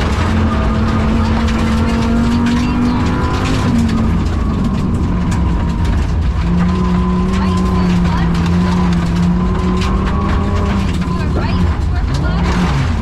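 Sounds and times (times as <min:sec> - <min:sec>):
car engine misfiring under load: 0:00.0 - 0:13.0
tyre and gravel noise: 0:00.0 - 0:13.0.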